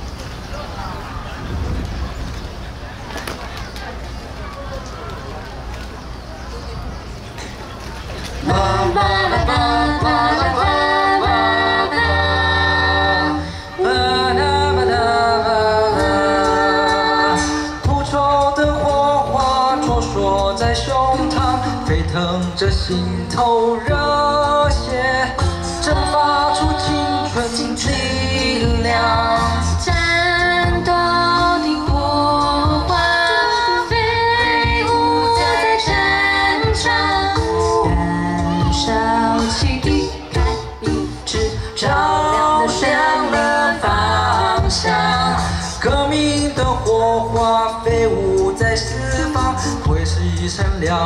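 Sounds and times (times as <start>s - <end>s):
sung bass line: 8.3s - 51.0s
a cappella group singing harmony: 8.4s - 51.0s.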